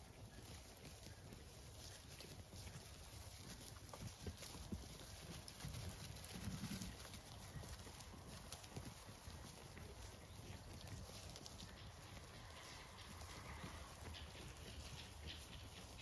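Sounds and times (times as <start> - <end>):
hooves knocking on a log: 0.0 - 16.0.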